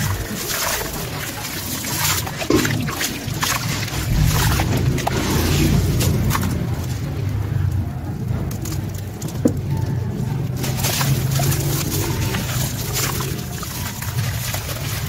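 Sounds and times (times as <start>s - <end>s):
grit pattering into water: 0.0s - 7.6s, 8.4s - 15.0s
water sloshing: 0.0s - 7.7s, 8.4s - 15.0s
wet cement crumbling in hands: 0.0s - 15.0s.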